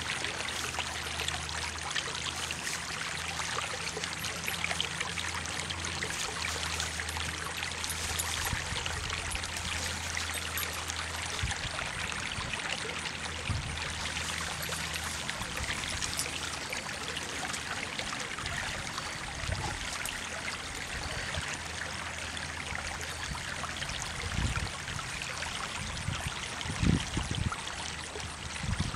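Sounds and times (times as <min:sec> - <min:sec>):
stream trickling and rushing: 0:00.0 - 0:28.9.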